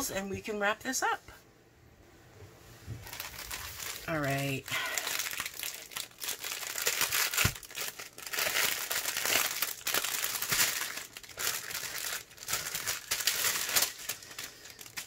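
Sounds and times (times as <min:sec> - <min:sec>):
plastic wrap crinkling: 0:02.9 - 0:15.0.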